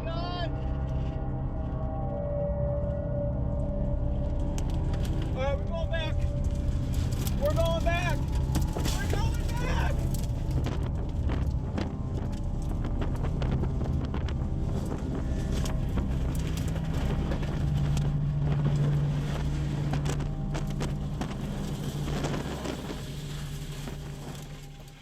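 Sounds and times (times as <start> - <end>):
wind noise: 0.0 - 25.0
car engine hum: 0.6 - 25.0.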